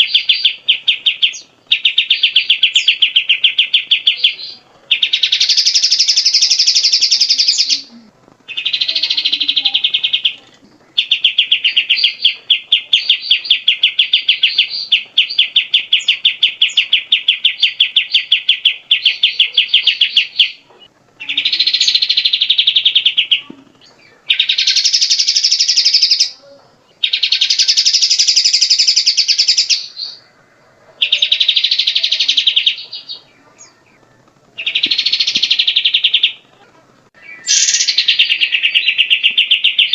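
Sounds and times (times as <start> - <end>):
bird singing buzzy trills: 0.0 - 39.9.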